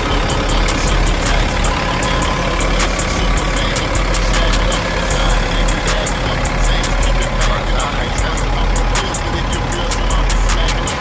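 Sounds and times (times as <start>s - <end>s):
diesel truck engine idling: 0.0s - 11.0s
rapid high ticking: 0.0s - 11.0s.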